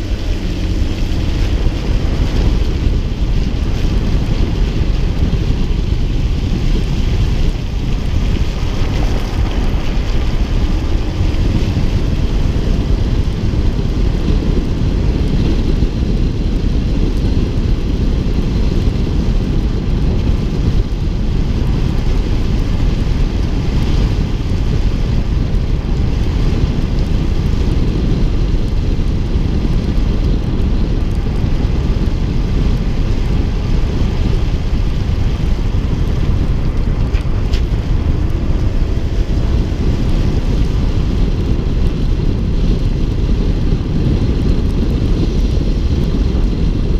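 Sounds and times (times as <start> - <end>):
car road noise: 0.0 - 46.9
wind buffeting microphone: 0.0 - 46.9.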